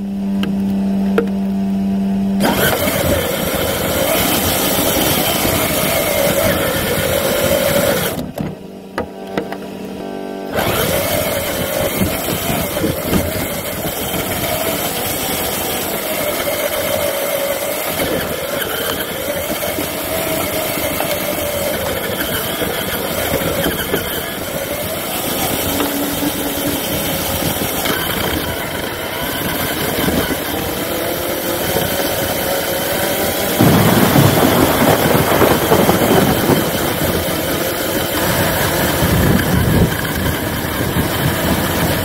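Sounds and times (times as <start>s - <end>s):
electric motor and gearbox whine: 0.0s - 42.0s
tires crackling over rough ground: 2.4s - 42.0s.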